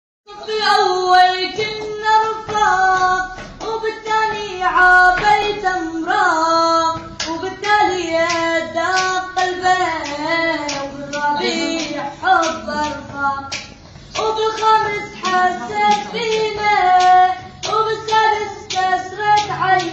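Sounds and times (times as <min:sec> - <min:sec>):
sharp clapping beat: 0:00.4 - 0:19.9.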